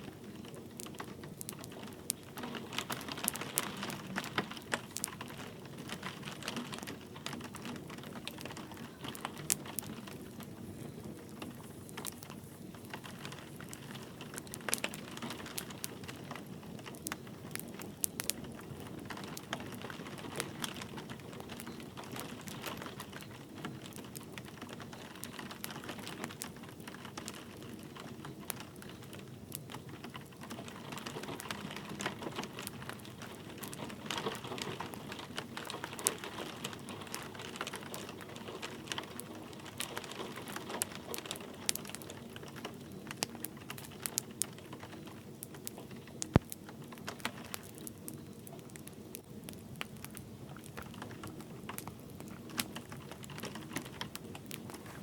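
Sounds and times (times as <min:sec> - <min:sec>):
light rain: 0:00.0 - 0:55.0
wood fire crackling: 0:00.0 - 0:55.0.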